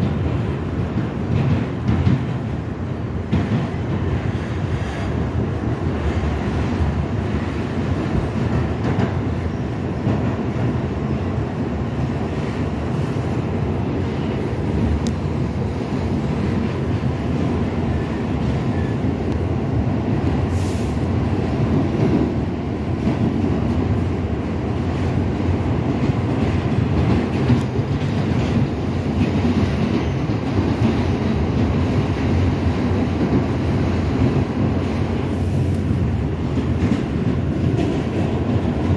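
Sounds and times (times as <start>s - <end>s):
subway train rumbling on rails: 0.0s - 38.9s.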